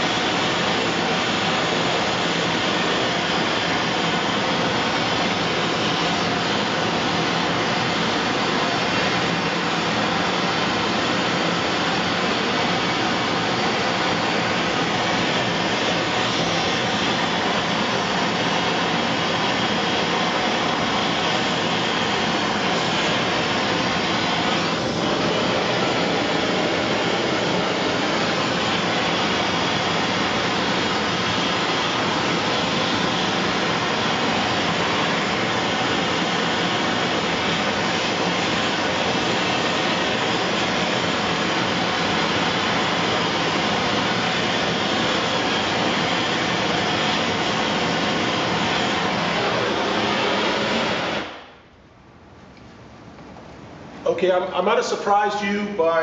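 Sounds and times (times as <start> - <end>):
propane torch hissing: 0.0 - 51.6.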